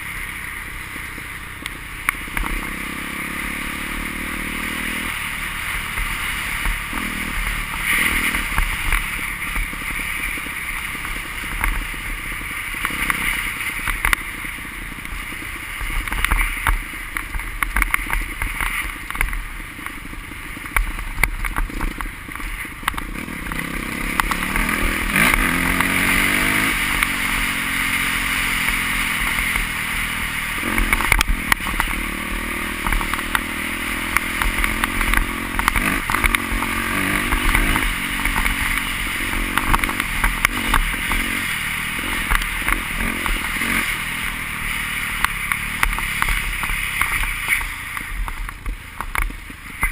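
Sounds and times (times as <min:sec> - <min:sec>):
motocross bikes revving: 0:00.0 - 0:49.9
rushing hiss with crackles: 0:00.0 - 0:49.9.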